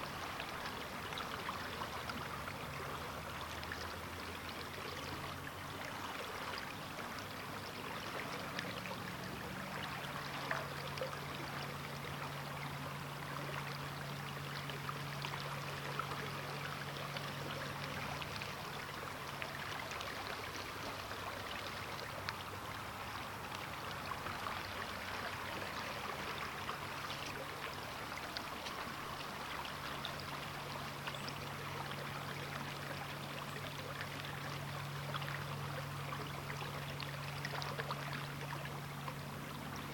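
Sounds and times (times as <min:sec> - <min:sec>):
river current rushing and gurgling: 0:00.0 - 0:39.9.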